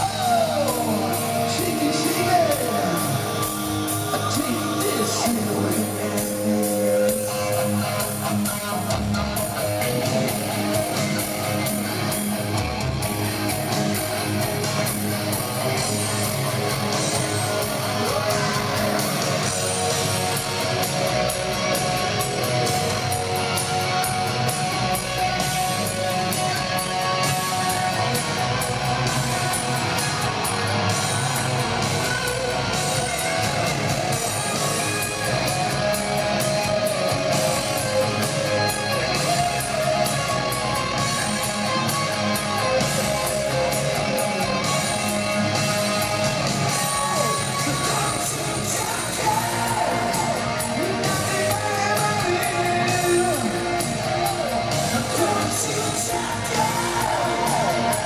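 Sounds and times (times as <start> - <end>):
electric guitars: 0.0 - 58.0.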